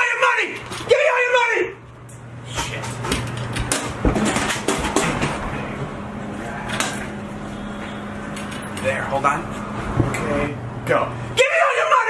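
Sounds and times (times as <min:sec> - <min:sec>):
steady low hum: 0:01.6 - 0:11.4.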